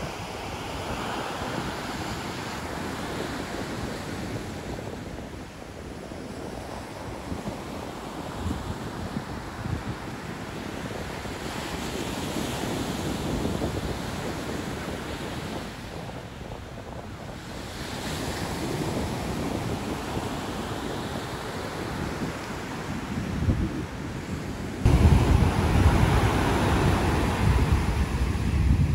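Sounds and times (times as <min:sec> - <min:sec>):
surf breaking on a beach: 0:00.0 - 0:28.9
wind rumbling on microphone: 0:00.0 - 0:28.9.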